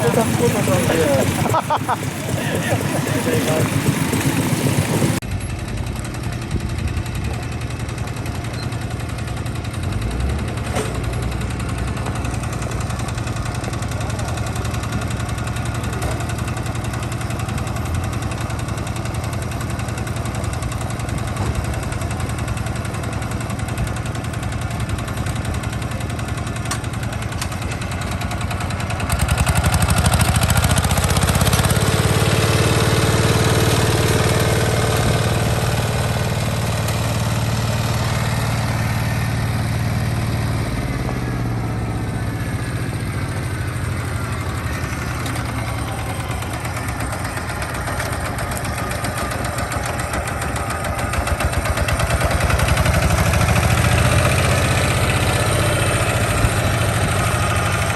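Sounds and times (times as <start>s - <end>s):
old farm engine running: 0.0s - 57.9s.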